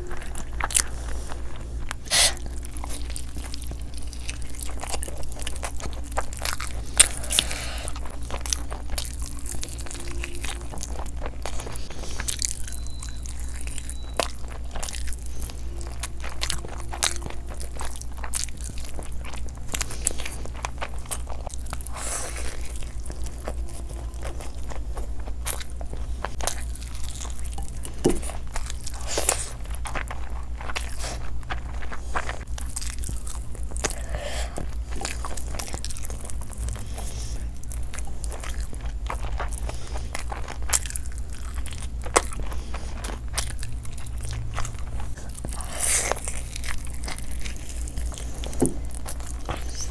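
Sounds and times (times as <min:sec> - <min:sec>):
chewing and crunching: 0:00.0 - 0:49.9
low hum: 0:00.0 - 0:49.9.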